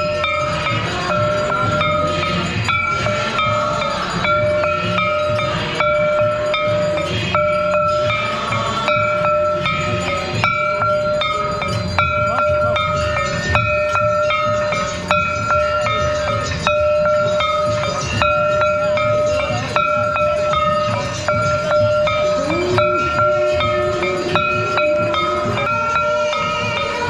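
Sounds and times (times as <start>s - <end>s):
temple bells ringing: 0.0s - 27.0s.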